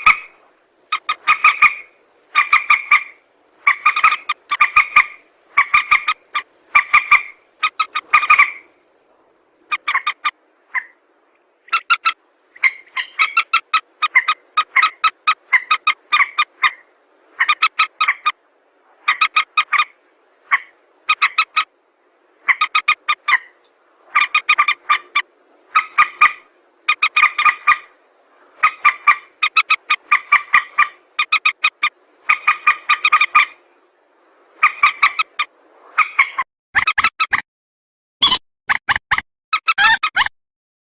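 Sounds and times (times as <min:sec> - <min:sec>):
waterbird pulsed calls: 0:00.0 - 0:11.0, 0:11.6 - 0:18.4, 0:19.0 - 0:21.8, 0:22.4 - 0:33.7, 0:34.6 - 0:37.3.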